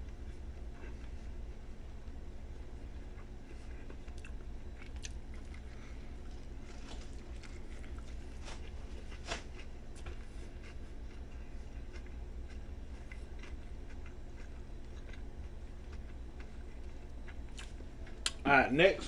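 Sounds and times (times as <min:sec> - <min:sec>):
steady low hum: 0:00.0 - 0:19.0
person chewing crunchy food: 0:02.4 - 0:18.4.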